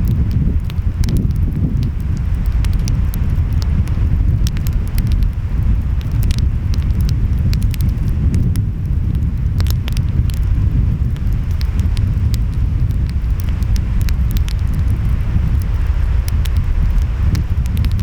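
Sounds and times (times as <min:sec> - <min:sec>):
wind: 0:00.0 - 0:18.0
wood fire crackling and popping: 0:00.0 - 0:18.0.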